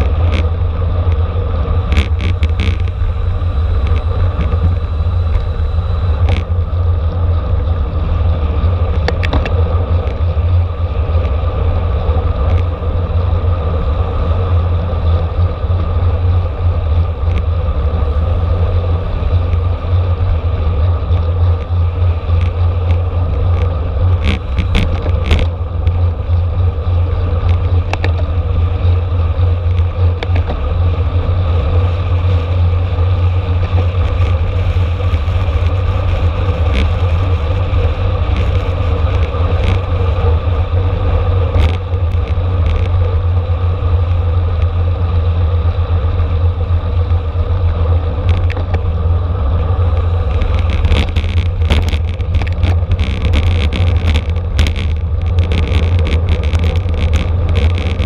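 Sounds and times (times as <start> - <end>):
bicycle clicks and rattles: 0.0 - 7.8, 8.5 - 13.5, 14.3 - 17.7, 18.8 - 45.0, 45.9 - 49.0, 49.6 - 58.0
hum of bicycle tyres: 0.0 - 58.0
wind rushing over microphone: 0.0 - 58.0.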